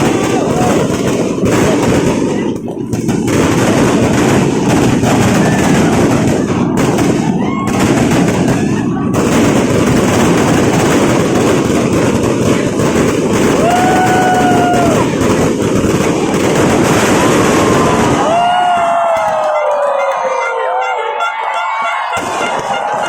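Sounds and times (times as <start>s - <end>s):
fireworks popping and banging: 0.0s - 20.3s, 22.0s - 23.0s
fireworks whistling: 0.0s - 20.8s, 22.0s - 23.0s.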